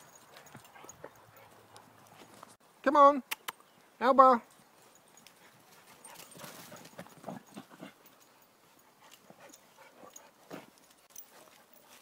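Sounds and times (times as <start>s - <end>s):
dog paws pattering on dirt: 0.0s - 2.6s, 3.7s - 12.0s
footsteps on dirt path: 0.0s - 2.6s, 4.6s - 12.0s.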